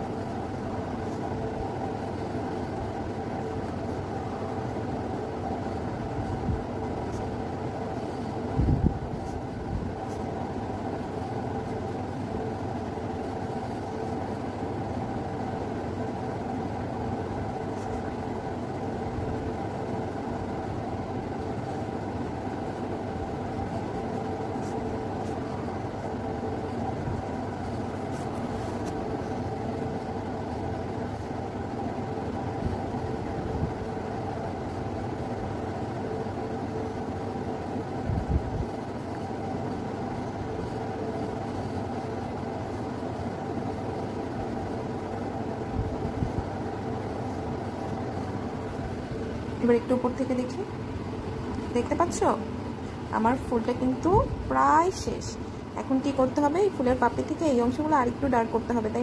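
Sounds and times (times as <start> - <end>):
faint steady whine: 0.0 - 59.0
steady mechanical hum: 0.0 - 59.0.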